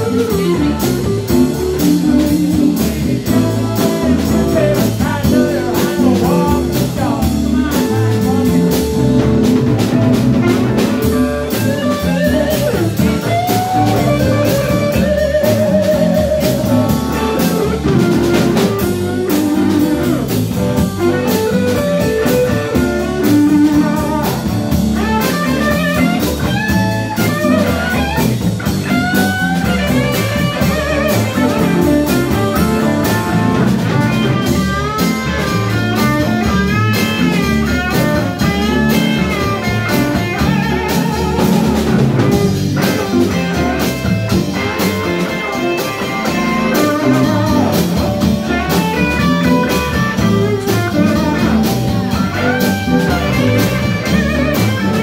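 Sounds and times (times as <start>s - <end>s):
blues band playing: 0.0s - 55.0s
electric guitar lead line: 0.0s - 55.0s.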